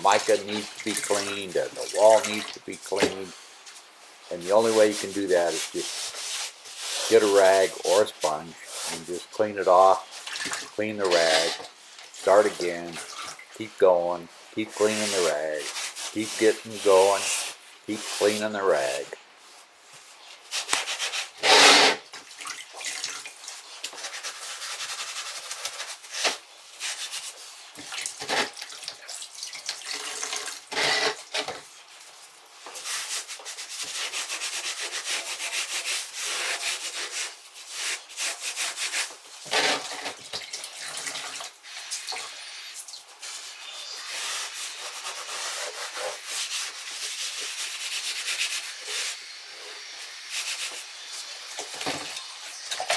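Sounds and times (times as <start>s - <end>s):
damp rag scrubbing tiles: 0.0s - 3.4s, 4.4s - 52.9s.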